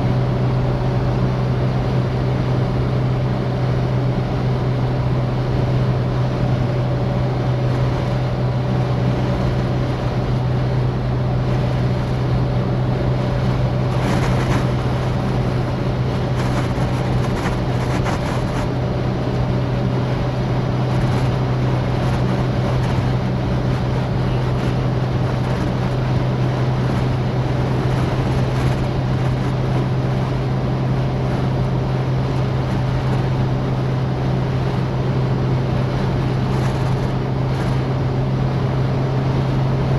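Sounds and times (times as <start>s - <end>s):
car engine and road drone: 0.0s - 39.9s.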